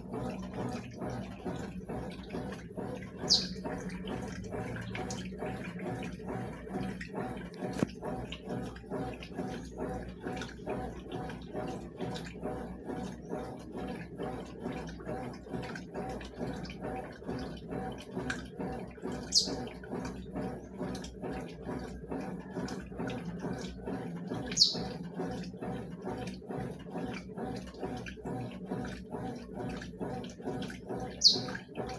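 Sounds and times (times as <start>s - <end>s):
washing machine agitator swishing: 0.0s - 31.9s.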